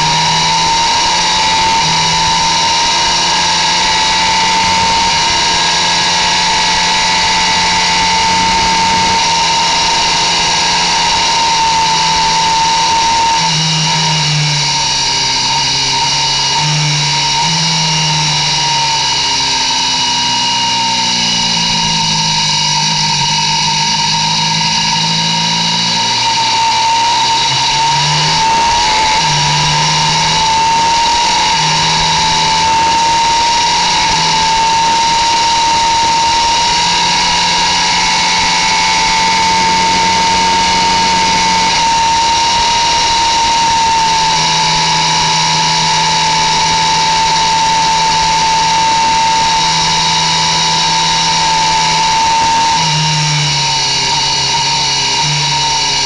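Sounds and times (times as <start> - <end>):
high whine: 0.0 - 56.0
motorcycle engine at full throttle: 0.0 - 56.0.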